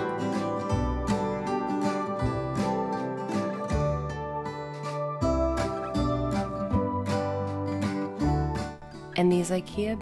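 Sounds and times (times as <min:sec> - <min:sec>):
plucked acoustic guitar: 0:00.0 - 0:09.9.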